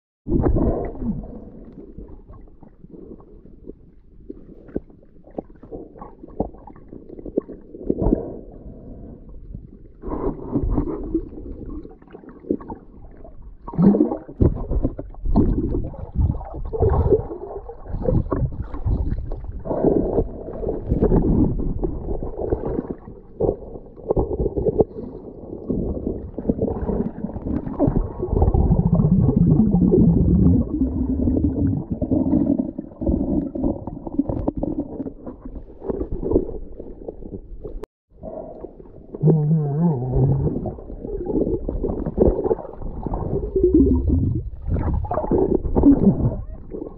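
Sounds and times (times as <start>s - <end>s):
muffled underwater sloshing: 0.3s - 46.9s.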